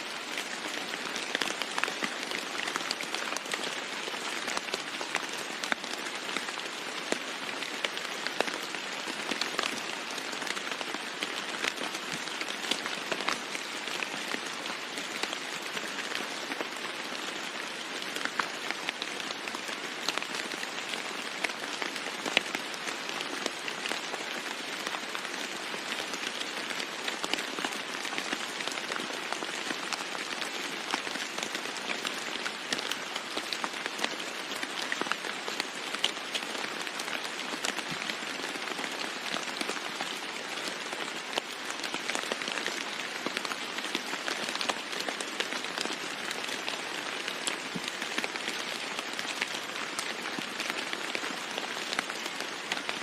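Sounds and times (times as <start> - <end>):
heavy rain on a roof: 0.0 - 53.0.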